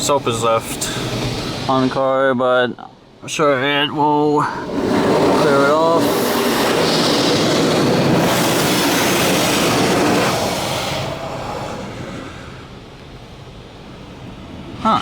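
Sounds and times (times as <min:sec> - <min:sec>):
car wash spray jets hissing: 0:00.0 - 0:02.3, 0:03.3 - 0:14.8.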